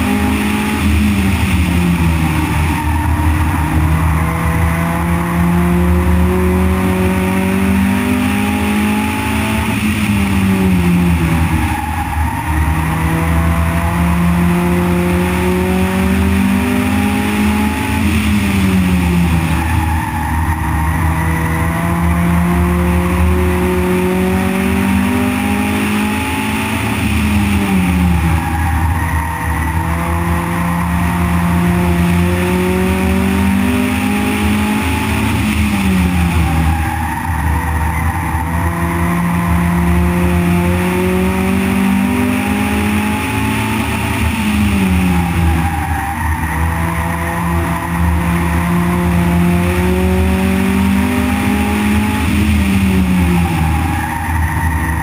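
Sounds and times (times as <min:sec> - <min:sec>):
race car engine: 0:00.0 - 0:55.0
wind and road noise: 0:00.0 - 0:55.0.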